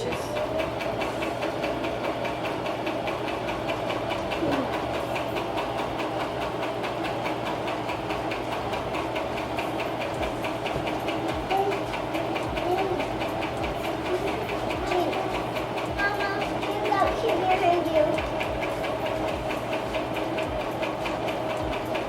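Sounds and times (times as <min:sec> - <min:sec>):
sewing machine stitching: 0:00.0 - 0:22.0.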